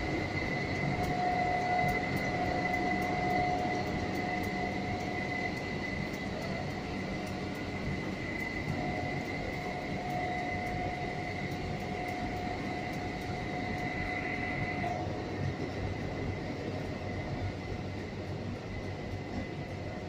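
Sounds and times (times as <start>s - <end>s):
faint steady whine: 0.0s - 20.0s.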